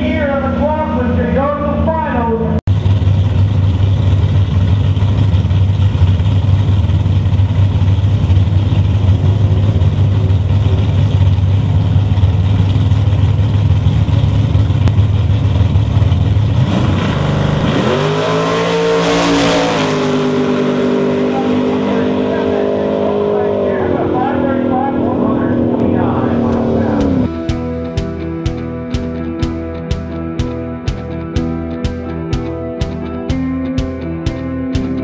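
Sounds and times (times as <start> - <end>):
race car engine: 0.0 - 35.0.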